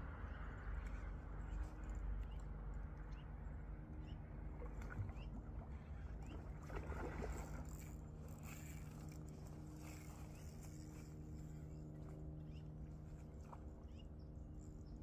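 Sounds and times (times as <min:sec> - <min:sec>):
distant motor hum: 0:00.0 - 0:15.0.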